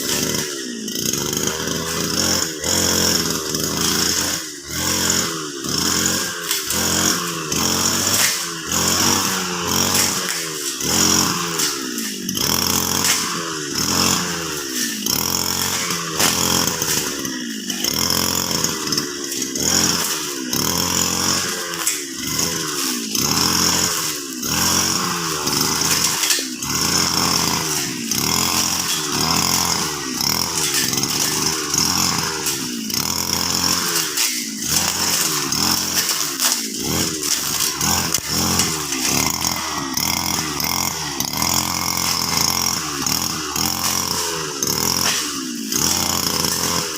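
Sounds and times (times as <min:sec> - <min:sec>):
brush cutter cutting grass: 0:00.0 - 0:46.9.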